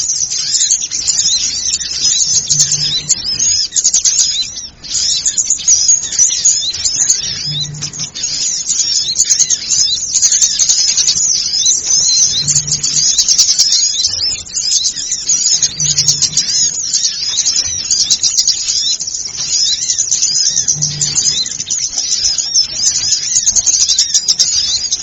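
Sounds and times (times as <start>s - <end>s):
small birds twittering: 0.0s - 25.0s.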